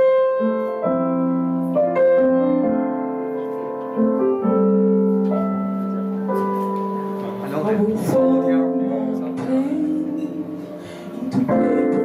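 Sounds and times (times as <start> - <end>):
keyboard playing piano chords: 0.0 - 12.0.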